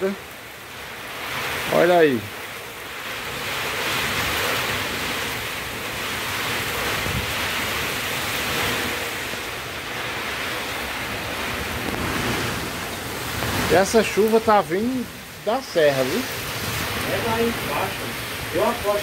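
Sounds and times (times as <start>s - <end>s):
gusting wind: 0.0s - 19.0s
heavy rain: 0.0s - 19.0s
wind rumbling on microphone: 3.2s - 19.0s.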